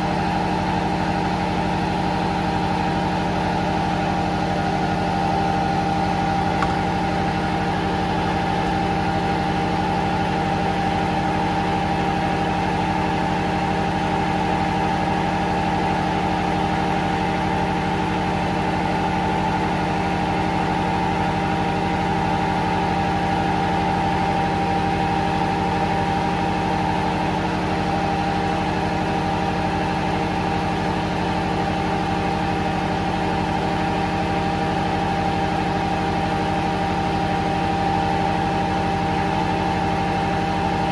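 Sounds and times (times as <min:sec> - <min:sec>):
diesel generator running: 0:00.0 - 0:40.9.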